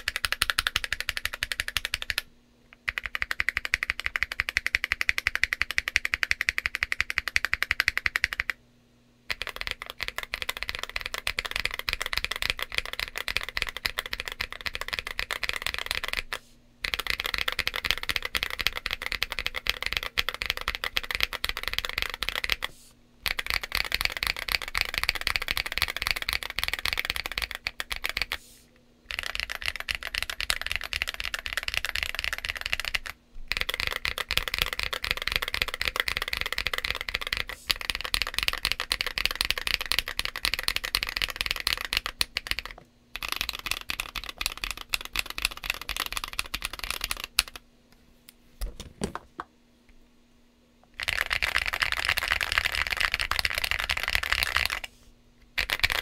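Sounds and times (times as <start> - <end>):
mechanical keyboard typing: 0.0 - 8.6, 9.3 - 28.4, 29.1 - 47.6, 51.0 - 54.9, 55.6 - 56.0.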